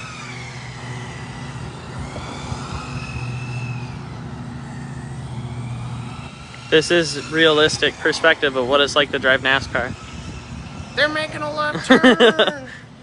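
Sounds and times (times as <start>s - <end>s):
steady low hum: 0.0s - 13.0s
toy car electric motor whining: 0.0s - 13.0s.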